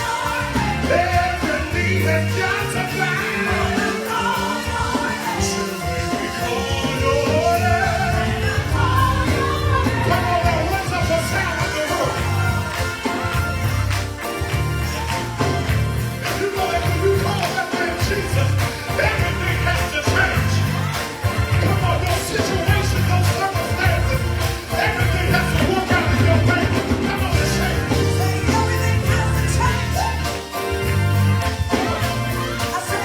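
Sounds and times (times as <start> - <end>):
pulsing bass line: 0.0 - 3.5, 6.4 - 32.7
choir singing: 0.0 - 33.0
drums keeping a beat: 0.0 - 33.0.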